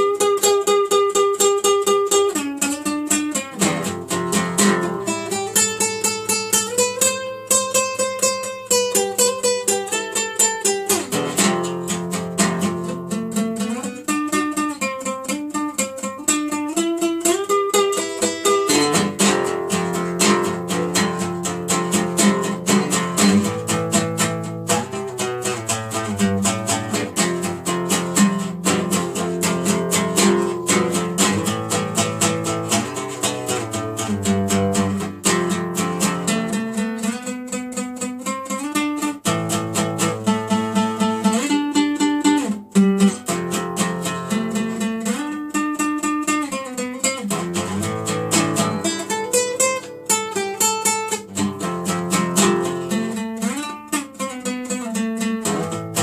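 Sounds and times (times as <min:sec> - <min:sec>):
classical acoustic guitar: 0:00.0 - 0:56.0.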